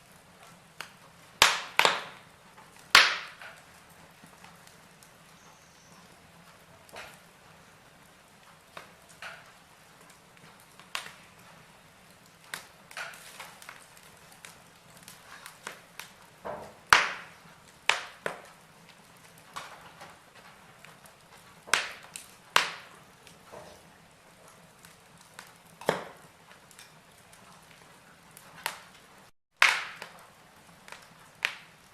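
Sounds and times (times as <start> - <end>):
faint steady hiss: 0.0 - 31.9
logs crackling in a fireplace: 0.0 - 31.9
sharp fire pops: 0.3 - 5.1, 6.8 - 7.4, 8.4 - 31.9.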